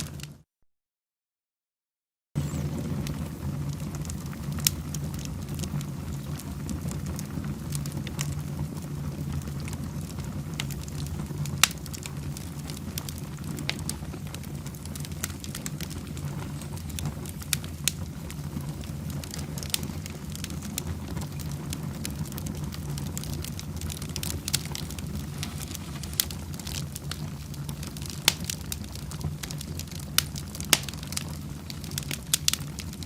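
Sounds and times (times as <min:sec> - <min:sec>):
fire crackles and pops: 0:00.0 - 0:00.4, 0:02.4 - 0:33.0
fire rumbling: 0:00.0 - 0:00.4, 0:02.4 - 0:33.0.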